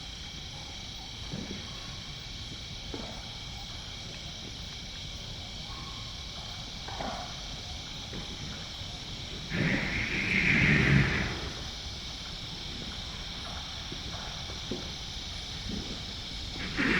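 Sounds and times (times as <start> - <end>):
crickets chirping: 0.0 - 16.9.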